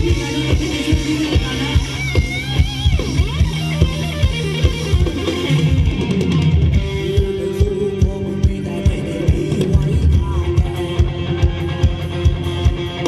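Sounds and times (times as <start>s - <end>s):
live band dance music: 0.0s - 13.0s.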